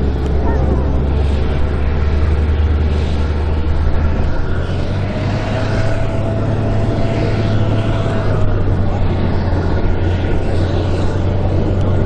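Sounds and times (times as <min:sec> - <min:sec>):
steady whine: 0:00.0 - 0:12.0
tracked vehicle engine running: 0:00.0 - 0:12.0.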